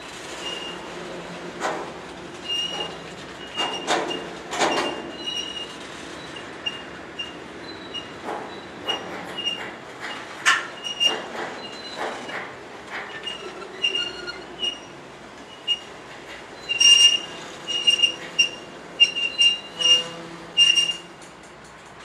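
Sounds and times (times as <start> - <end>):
train wheels squealing: 0.4 - 0.8, 2.4 - 12.4, 13.1 - 15.9, 16.6 - 21.2.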